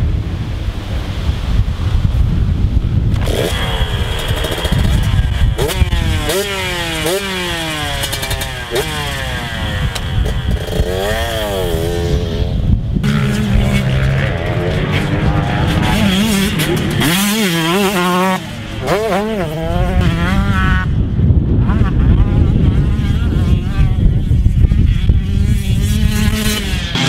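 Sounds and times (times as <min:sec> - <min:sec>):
two-stroke motorcycle engine revving: 0:03.1 - 0:27.0.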